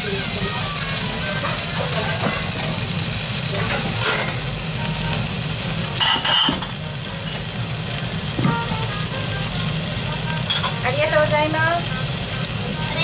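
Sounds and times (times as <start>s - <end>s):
meat sizzling on hot plate: 0.0s - 13.0s.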